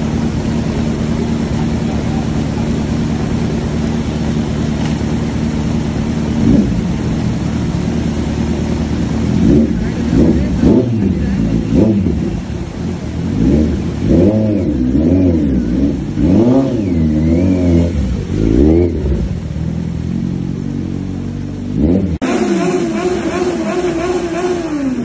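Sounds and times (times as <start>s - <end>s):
motorcycle engine revving: 0.0s - 25.0s
steady engine note: 0.0s - 25.0s.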